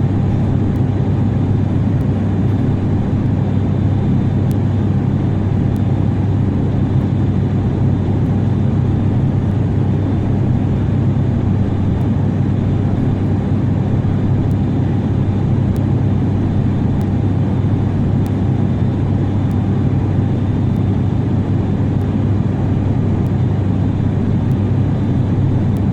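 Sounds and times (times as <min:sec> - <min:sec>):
jet engine and airflow rumble: 0:00.0 - 0:25.9.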